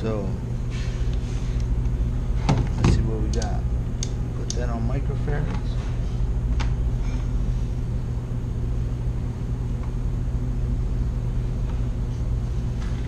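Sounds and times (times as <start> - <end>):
low machinery hum: 0.0 - 13.0.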